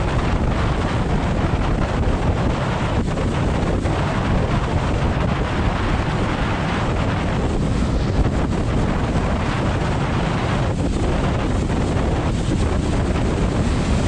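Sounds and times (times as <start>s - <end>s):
sled sliding over packed snow: 0.0s - 14.0s
wind buffeting microphone: 0.0s - 14.0s.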